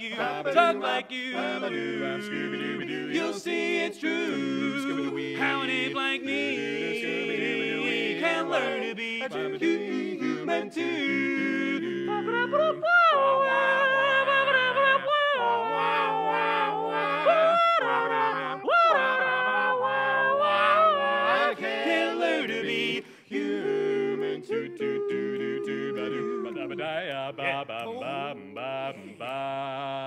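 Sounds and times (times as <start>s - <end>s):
male a cappella harmony singing: 0.0s - 30.0s.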